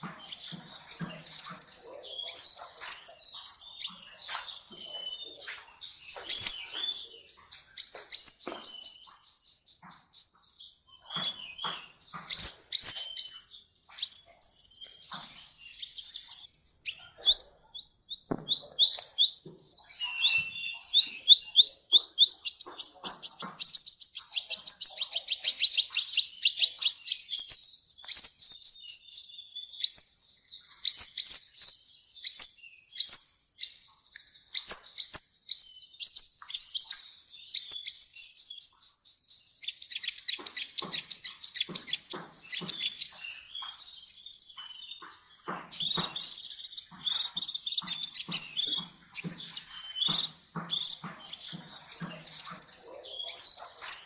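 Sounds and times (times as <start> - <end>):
sunbird singing: 0.0 - 54.0.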